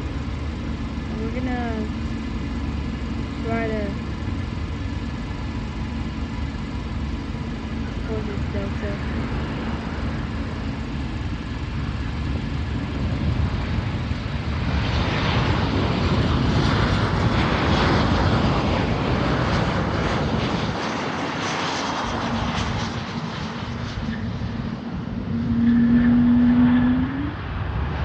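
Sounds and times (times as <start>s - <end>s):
jet airliner passing overhead: 0.0s - 28.0s
low rumble: 0.0s - 28.0s.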